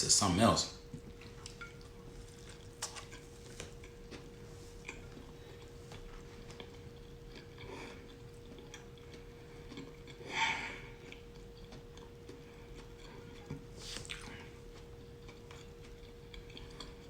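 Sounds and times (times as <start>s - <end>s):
faint hum: 0.0s - 17.0s
person chewing sandwich: 0.9s - 17.0s.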